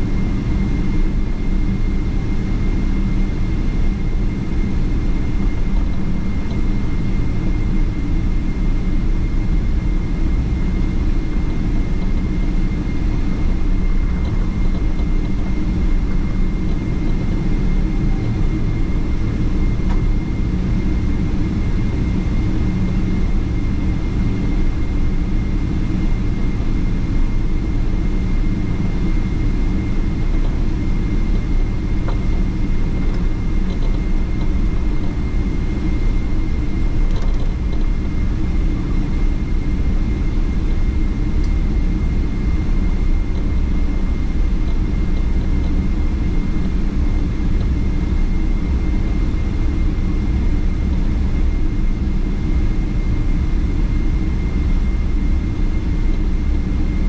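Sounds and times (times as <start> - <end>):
jet engine cabin rumble: 0.0 - 57.0
thin steady whine: 0.0 - 57.0.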